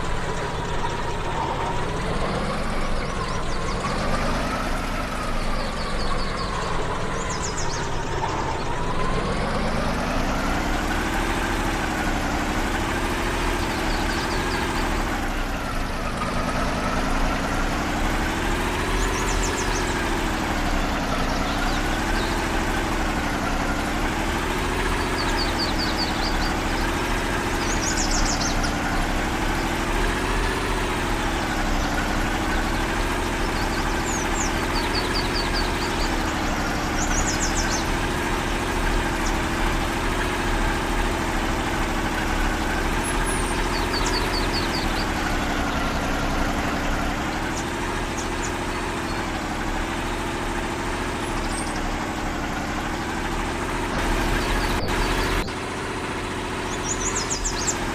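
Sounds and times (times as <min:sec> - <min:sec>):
vehicle engine at low revs: 0:00.0 - 0:57.9.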